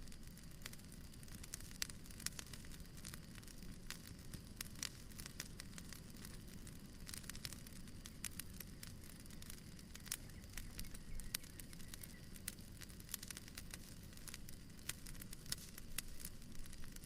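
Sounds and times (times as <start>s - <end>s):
fire crackling and popping: 0.0s - 17.0s
low rumble of flame: 0.0s - 17.0s.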